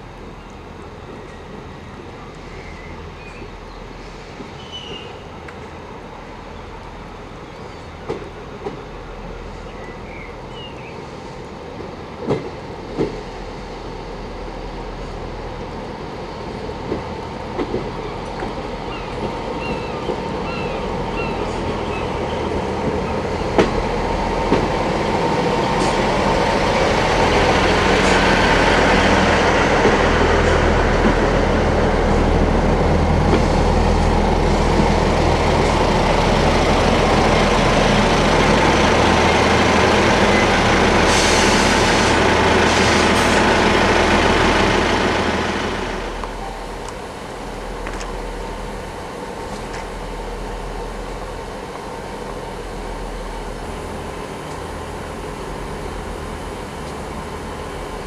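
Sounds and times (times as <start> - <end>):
train running close by: 0.0 - 58.0.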